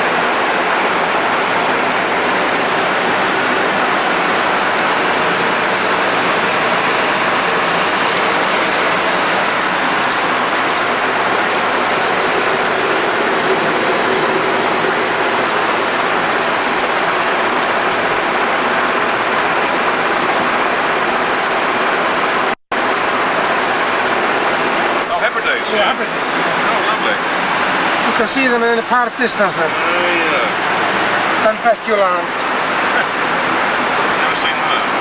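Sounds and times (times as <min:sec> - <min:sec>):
airflow rush in cockpit: 0:00.0 - 0:35.0
jet engines humming: 0:00.0 - 0:35.0.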